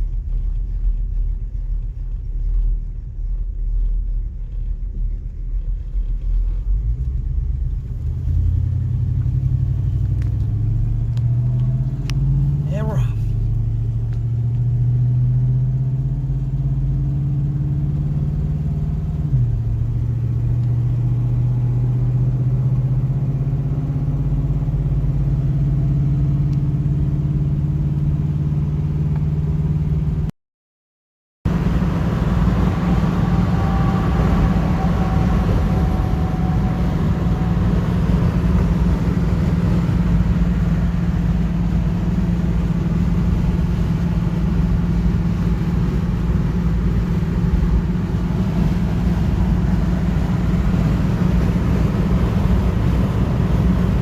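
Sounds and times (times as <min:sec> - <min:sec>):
car engine droning: 0:00.0 - 0:30.3, 0:31.5 - 0:54.0
road noise: 0:00.0 - 0:30.3, 0:31.5 - 0:54.0.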